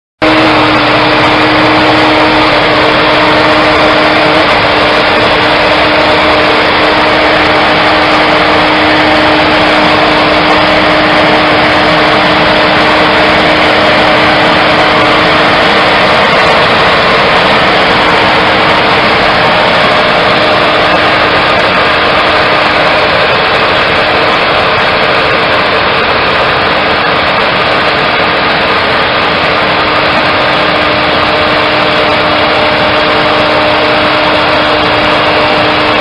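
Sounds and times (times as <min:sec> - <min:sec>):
vehicle engine droning: 0:00.2 - 0:36.0.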